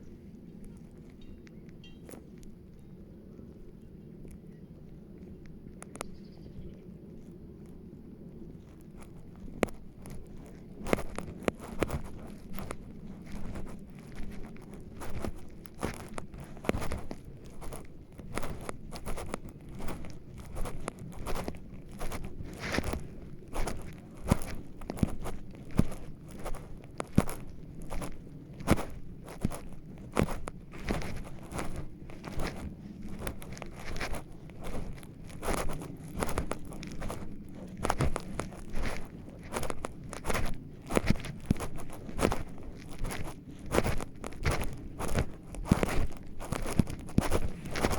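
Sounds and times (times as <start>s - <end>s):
low steady rumble: 0.0s - 47.9s
footsteps crunching on forest litter: 8.3s - 47.9s.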